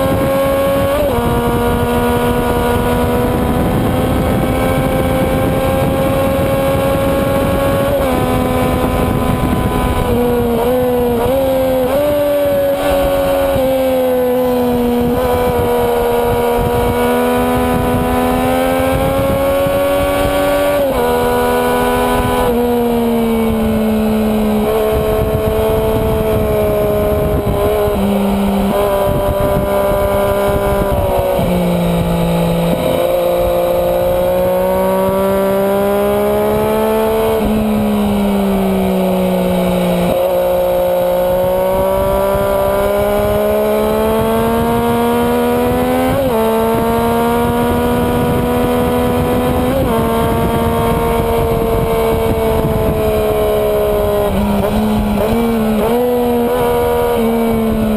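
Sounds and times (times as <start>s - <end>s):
heavy wind noise: 0.0s - 57.9s
motorcycle engine running hard: 0.0s - 57.9s.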